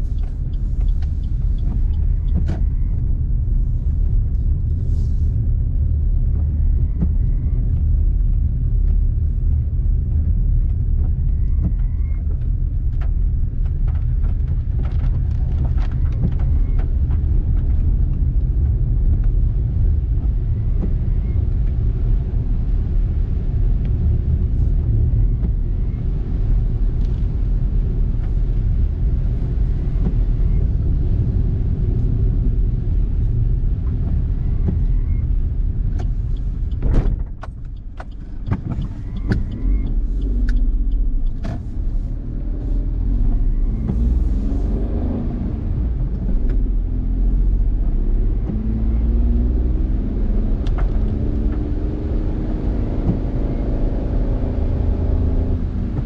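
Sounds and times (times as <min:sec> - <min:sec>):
car tyres and engine rumbling: 0:00.0 - 0:56.0.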